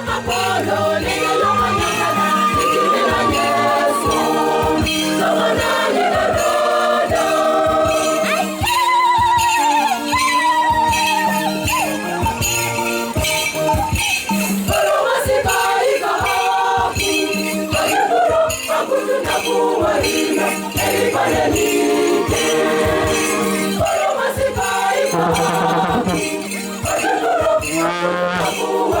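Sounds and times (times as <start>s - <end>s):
choir singing a hymn: 0.0s - 29.0s
percussion beat: 0.0s - 29.0s.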